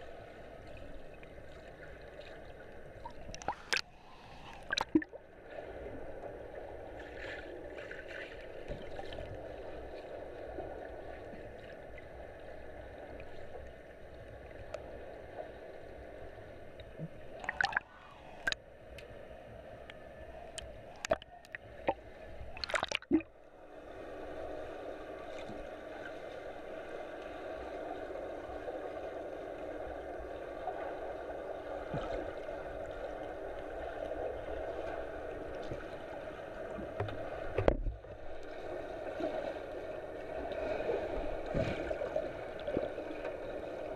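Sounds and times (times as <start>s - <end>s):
muffled underwater rush: 0.0s - 13.5s, 16.9s - 18.6s, 20.2s - 43.9s.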